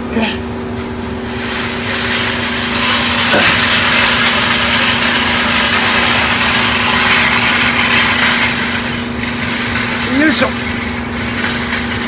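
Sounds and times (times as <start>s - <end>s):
motor hum with airy rush: 0.0s - 12.0s.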